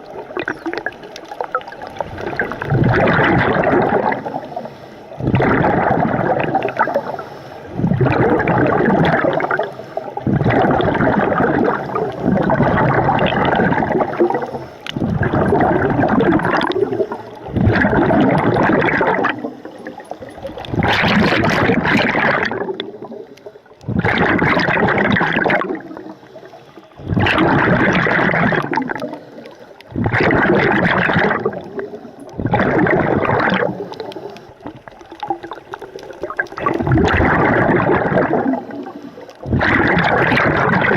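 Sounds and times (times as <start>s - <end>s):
diver breathing bubbles underwater: 0.0s - 40.9s.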